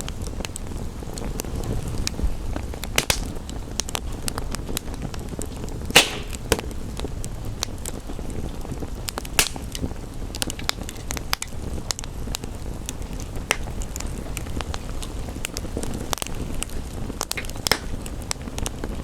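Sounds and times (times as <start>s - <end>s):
rain hissing: 0.0s - 19.0s
wood fire crackling: 0.0s - 19.0s.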